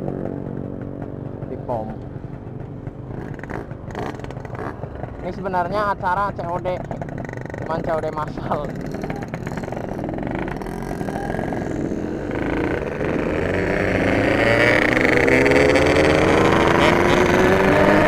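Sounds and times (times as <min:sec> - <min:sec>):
two-stroke motorcycle engine accelerating: 0:00.0 - 0:18.0.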